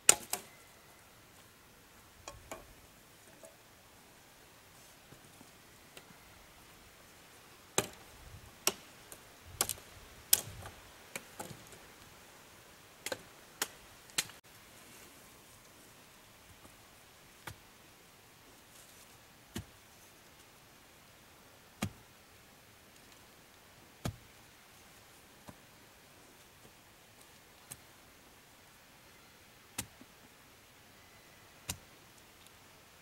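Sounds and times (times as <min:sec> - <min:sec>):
faint steady hiss: 0:00.0 - 0:33.0.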